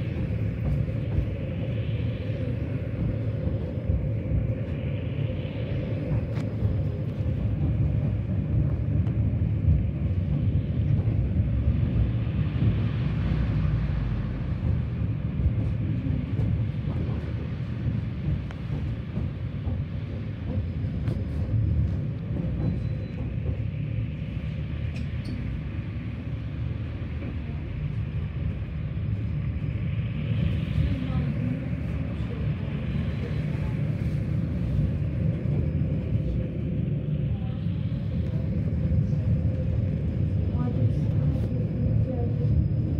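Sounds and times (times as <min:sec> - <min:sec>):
tram wheels rumbling on rails: 0:00.0 - 0:42.9.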